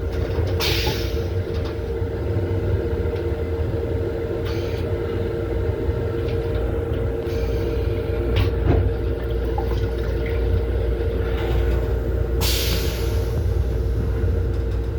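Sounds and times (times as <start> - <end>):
train car rumble and hum: 0.0 - 14.9.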